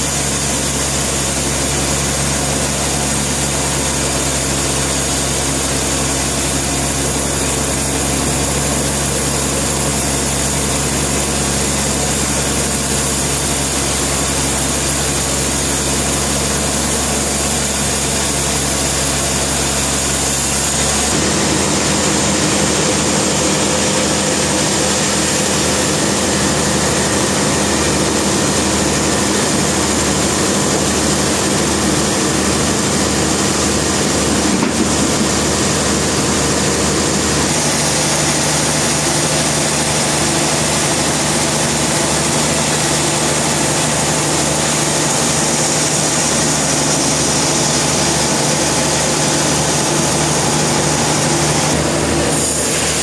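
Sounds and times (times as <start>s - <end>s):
machinery hiss: 0.0s - 53.0s
sawmill engine hum: 0.0s - 53.0s.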